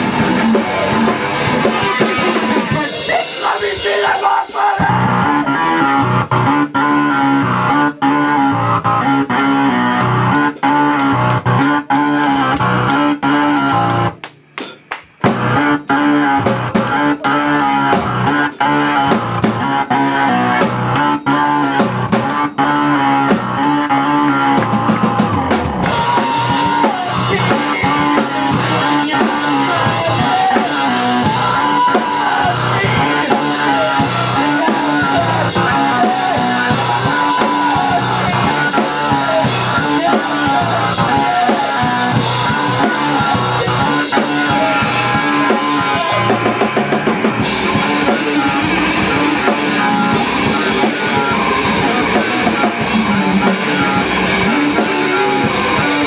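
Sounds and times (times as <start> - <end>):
drum kit: 0.0 - 56.0
guitar: 0.0 - 56.0
live rock band: 0.0 - 56.0.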